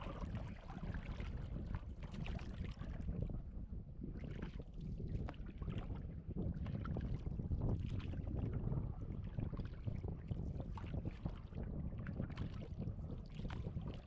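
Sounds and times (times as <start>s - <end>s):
water lapping against boat: 0.0s - 14.0s
wind rumbling on microphone: 0.0s - 14.0s.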